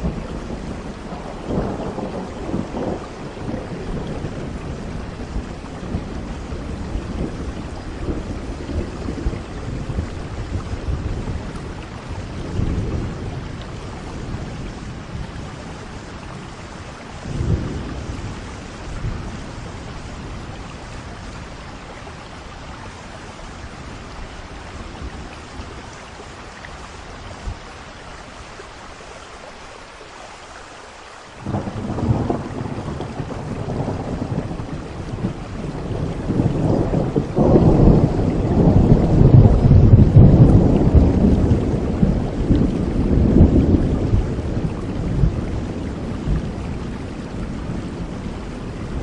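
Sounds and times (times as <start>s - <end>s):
thunder rumbling: 0.0s - 27.7s, 31.4s - 49.0s
steady rain: 0.0s - 49.0s.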